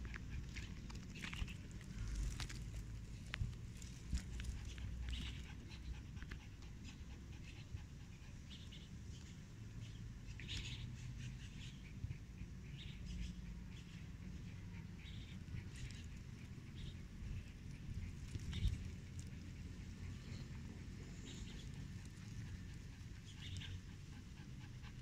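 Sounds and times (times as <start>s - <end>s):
low steady rumble: 0.0s - 25.0s
soft dog sounds: 0.0s - 25.0s.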